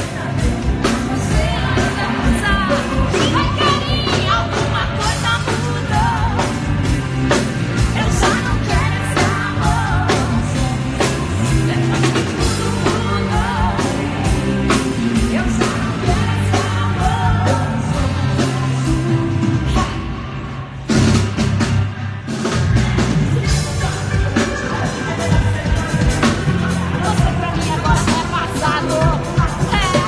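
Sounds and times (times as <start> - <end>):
women singing: 0.0 - 20.5, 22.3 - 30.0
steady drum beat: 0.0 - 30.0.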